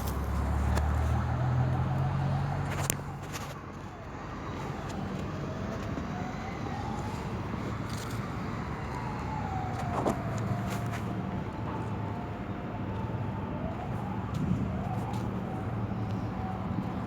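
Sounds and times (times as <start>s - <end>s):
street traffic rumble: 0.0s - 17.0s
siren wailing: 0.3s - 2.8s, 3.9s - 17.0s.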